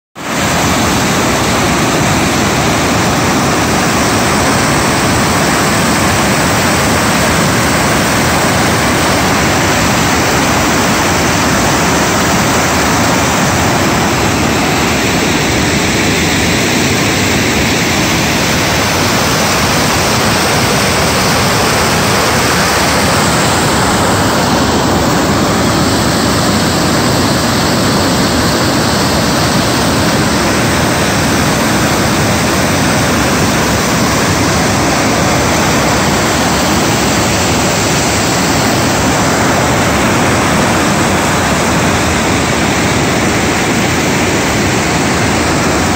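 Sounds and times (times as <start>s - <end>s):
river rapids rushing over rocks: 0.2s - 45.9s.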